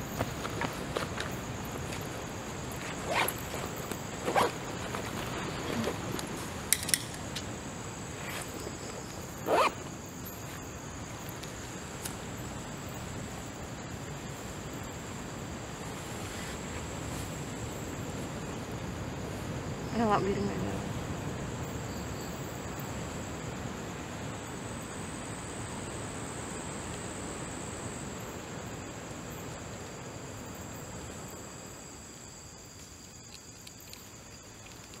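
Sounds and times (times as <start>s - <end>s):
high-pitched insect trill: 0.0s - 35.0s.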